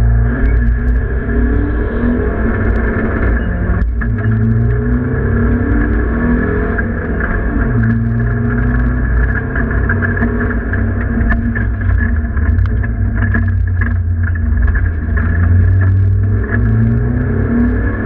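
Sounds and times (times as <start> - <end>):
race car engine under load: 0.0 - 18.0.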